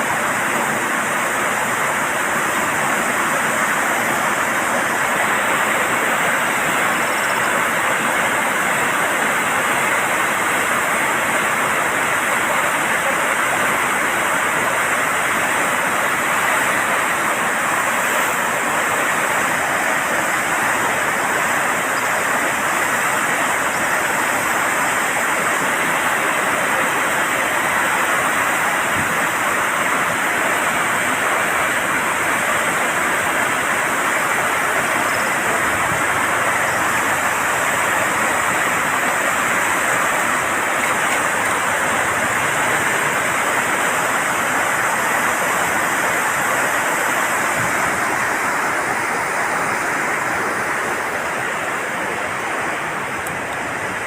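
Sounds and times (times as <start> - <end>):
water rushing through dam gates: 0.0 - 54.0.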